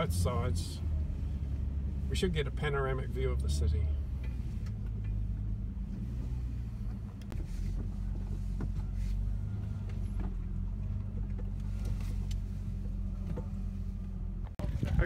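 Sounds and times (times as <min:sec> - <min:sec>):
van engine humming: 0:00.0 - 0:15.0.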